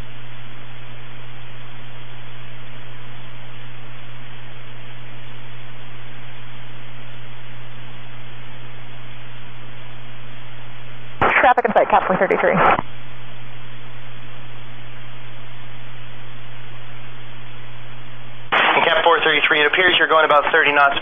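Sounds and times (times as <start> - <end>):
low hum: 0.0 - 21.0
radio static hiss: 0.0 - 21.0.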